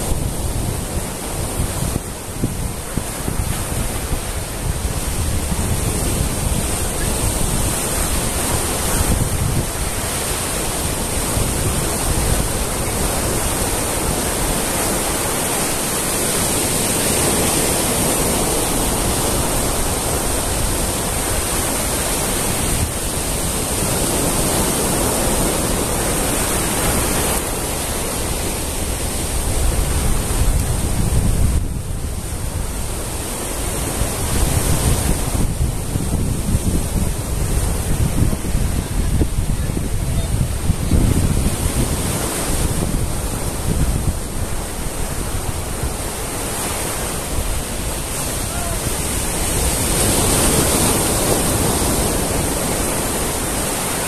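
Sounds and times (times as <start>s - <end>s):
waves washing over rocks: 0.0s - 54.0s
wind buffeting microphone: 0.0s - 54.0s.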